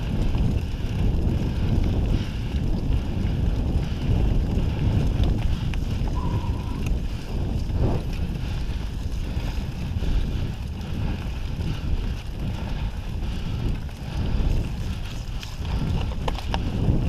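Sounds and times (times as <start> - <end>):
low rumble from bike ride: 0.0 - 17.0
wind noise on microphone: 0.0 - 17.0.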